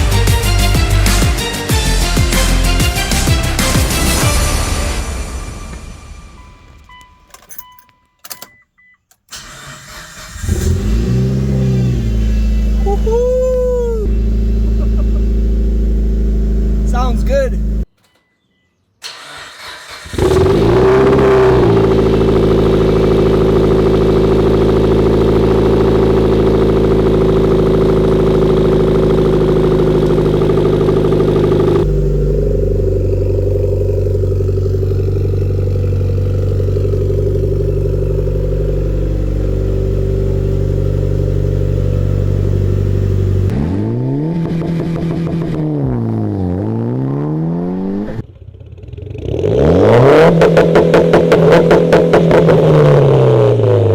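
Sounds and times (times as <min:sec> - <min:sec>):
engine revving: 0:00.0 - 0:06.5, 0:09.3 - 0:17.9, 0:19.0 - 0:53.9
car engine starting and idling: 0:00.0 - 0:17.9, 0:19.0 - 0:53.9.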